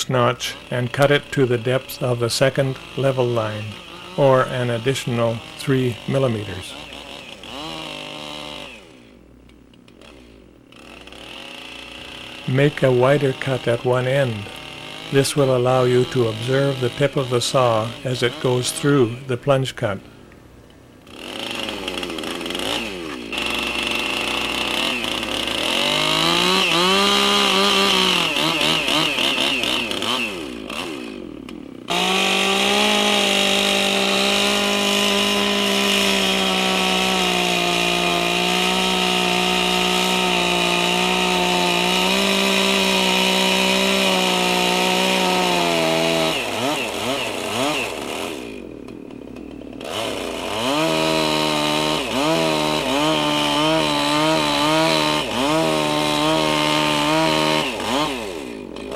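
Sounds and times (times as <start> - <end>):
chainsaw cutting log: 0.0 - 9.2, 9.8 - 20.0, 20.9 - 58.9.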